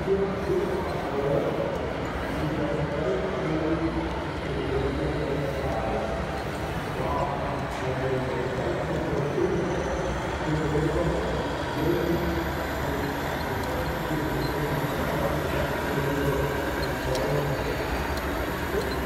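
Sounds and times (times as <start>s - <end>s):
simulated diesel engine running: 0.0s - 19.0s.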